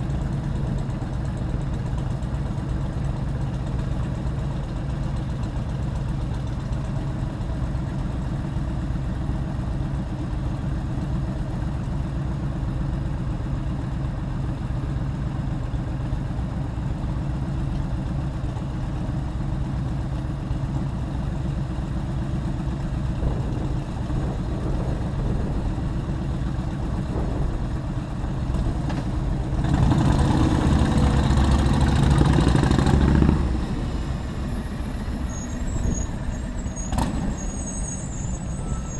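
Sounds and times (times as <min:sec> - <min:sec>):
motorcycle engine running: 0:00.0 - 0:35.3
road noise: 0:00.0 - 0:38.9.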